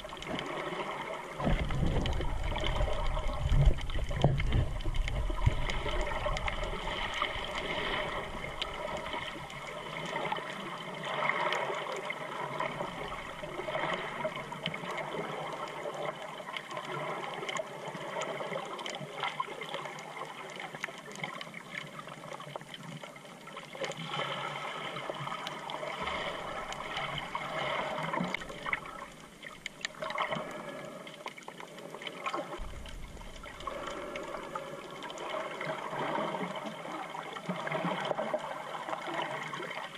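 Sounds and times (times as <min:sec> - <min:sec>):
faint crackles: 0:00.0 - 0:39.9
muffled underwater sloshing: 0:00.0 - 0:39.9.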